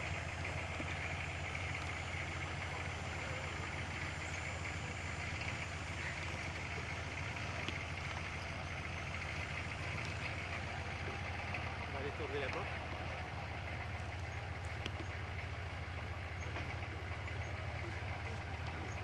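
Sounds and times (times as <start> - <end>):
car engine running at low speed: 0.0 - 19.0.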